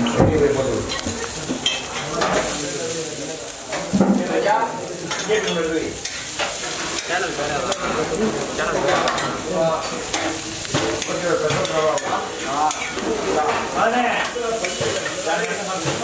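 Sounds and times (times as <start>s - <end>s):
onions sizzling on griddle: 0.0s - 16.0s.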